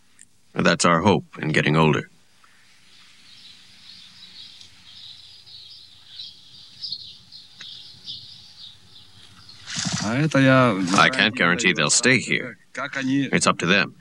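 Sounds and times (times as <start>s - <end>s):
birds chirping: 0.6s - 14.0s.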